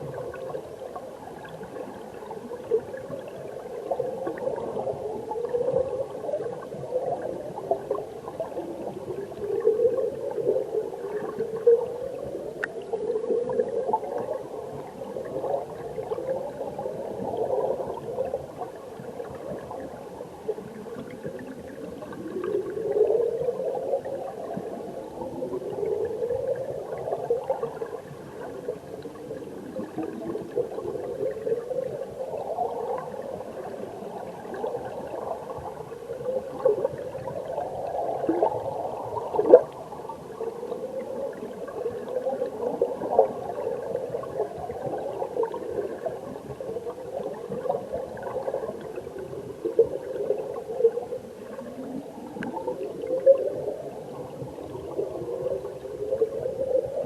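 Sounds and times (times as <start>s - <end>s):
muffled underwater rush of water: 0.0s - 57.0s
rising gurgles: 0.0s - 57.0s.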